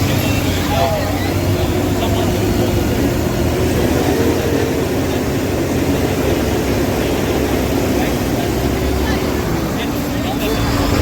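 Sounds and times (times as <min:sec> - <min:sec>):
heavy engine droning: 0:00.0 - 0:11.0.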